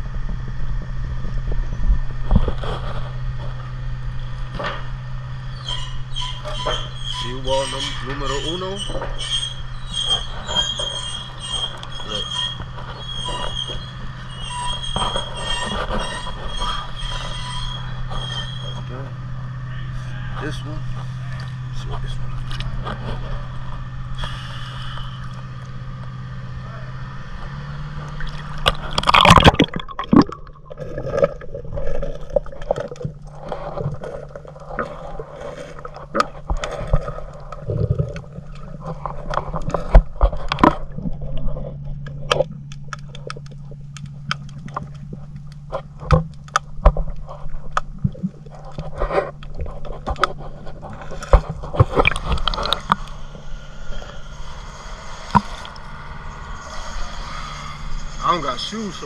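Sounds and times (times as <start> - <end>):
low engine hum: 0.0 - 7.4, 13.7 - 59.0
water sloshing and gurgling: 0.0 - 20.1, 20.7 - 26.3, 27.5 - 58.9.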